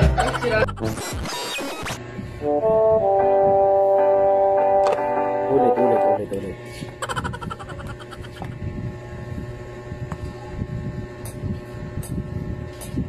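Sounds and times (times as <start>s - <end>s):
air conditioner humming: 0.0s - 1.1s, 1.9s - 13.0s.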